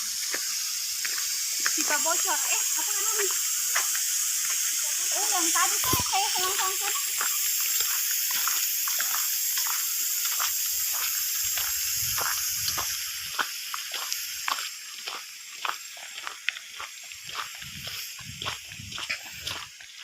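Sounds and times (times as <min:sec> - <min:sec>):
water drips and splashes: 0:00.0 - 0:20.0
water hissing from leaking pipe: 0:00.0 - 0:20.0.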